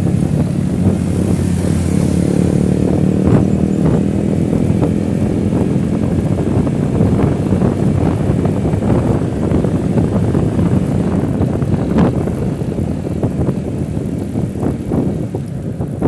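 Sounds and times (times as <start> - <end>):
road and wind noise: 0.0 - 16.0
vehicle rumble: 0.0 - 16.0.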